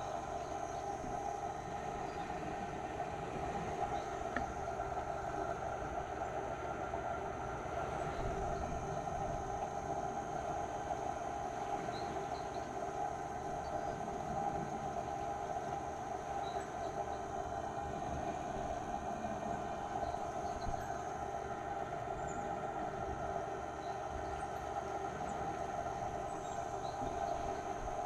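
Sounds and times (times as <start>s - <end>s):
steady mechanical drone: 0.0s - 28.0s.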